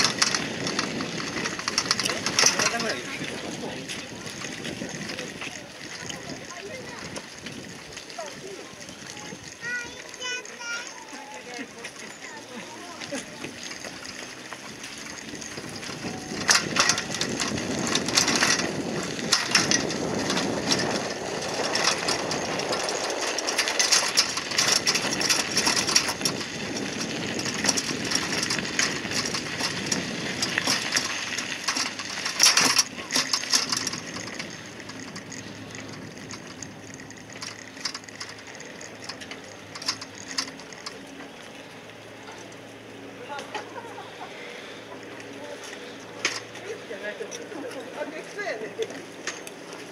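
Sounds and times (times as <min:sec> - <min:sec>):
bicycle riding on smooth pavement: 0:00.0 - 0:49.9
bicycle tyres crunching on gravel: 0:00.0 - 0:49.9.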